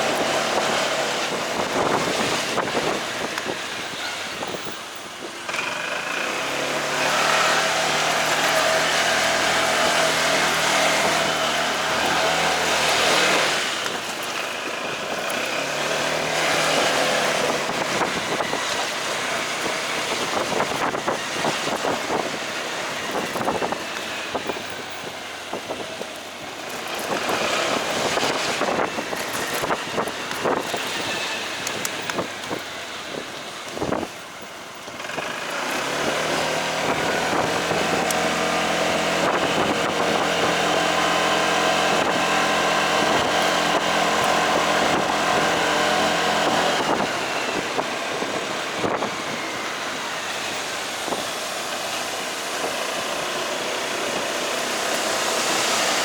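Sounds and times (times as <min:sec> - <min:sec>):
motorcycle engine running: 0:00.0 - 0:56.0
road and traffic noise: 0:00.0 - 0:56.0.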